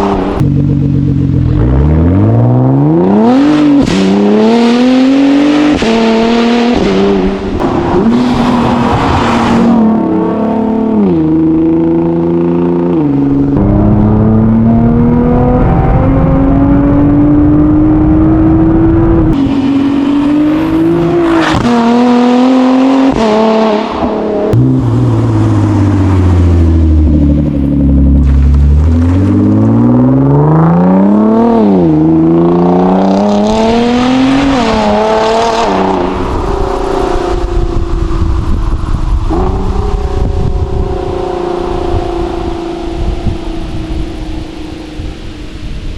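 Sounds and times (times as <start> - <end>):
car engine revving through exhaust: 0.0 - 45.8.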